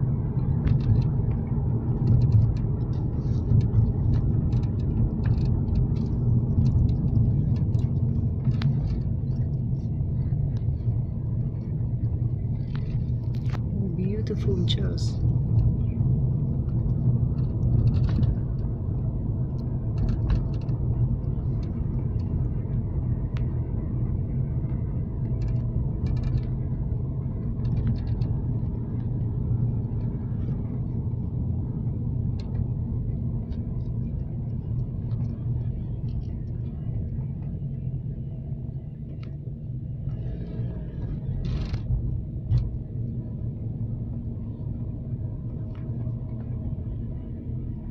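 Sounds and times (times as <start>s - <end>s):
vehicle engine rumble: 0.0s - 47.9s.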